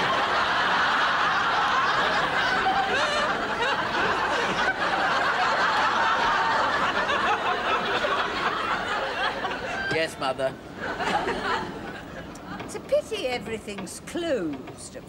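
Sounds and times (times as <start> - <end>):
studio audience laughing: 0.0 - 12.9.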